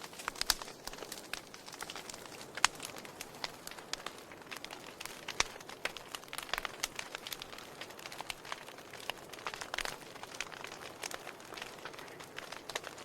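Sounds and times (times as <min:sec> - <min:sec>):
fireplace fire crackling: 0:00.0 - 0:13.0
soft steady hiss: 0:00.0 - 0:13.0.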